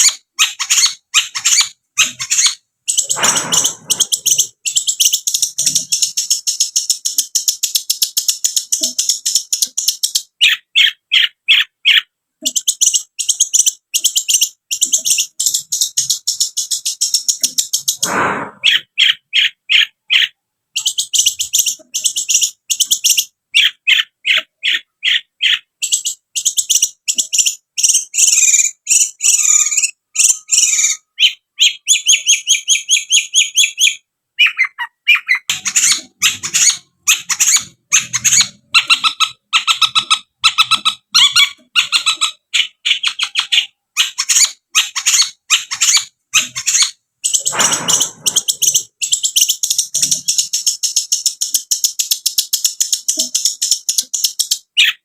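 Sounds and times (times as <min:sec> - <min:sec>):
bird chattering song: 0:00.0 - 0:55.0.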